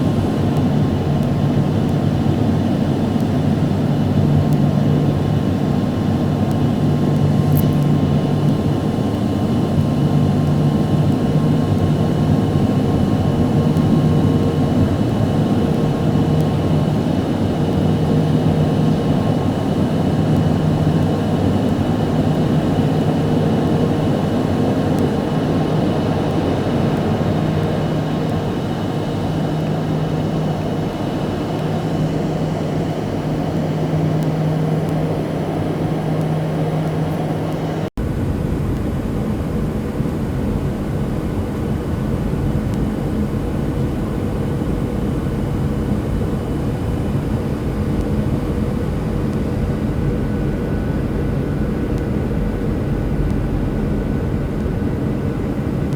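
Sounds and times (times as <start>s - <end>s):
airliner engine drone: 0.0s - 55.9s.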